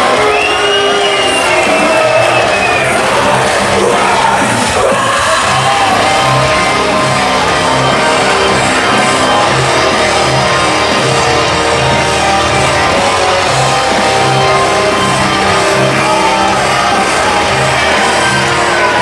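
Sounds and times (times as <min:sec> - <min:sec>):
loud rock music: 0:00.0 - 0:19.0.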